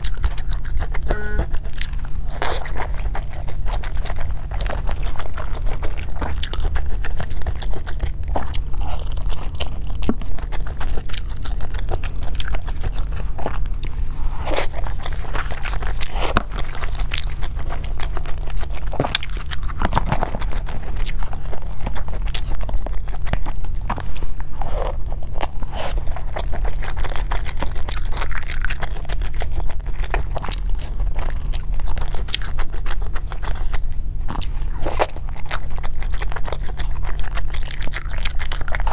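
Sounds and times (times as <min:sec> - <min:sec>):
chewing and biting dumplings: 0:00.0 - 0:38.9
steady low hum: 0:00.0 - 0:38.9.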